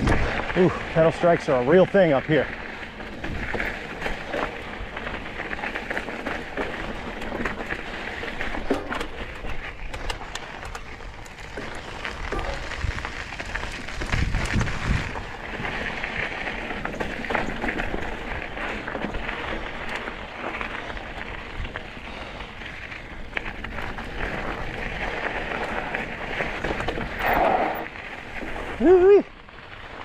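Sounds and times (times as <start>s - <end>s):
bike rattling over bumps: 0.0s - 30.0s
bike tyres crunching on gravel: 0.0s - 30.0s.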